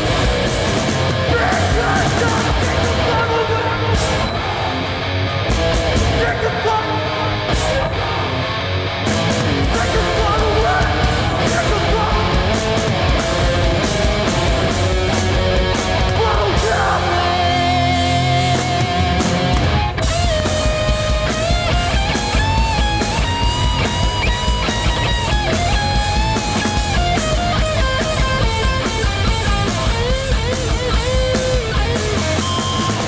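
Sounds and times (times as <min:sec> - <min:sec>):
bass guitar: 0:00.0 - 0:33.0
distorted electric guitars: 0:00.0 - 0:33.0
drums: 0:00.0 - 0:33.0.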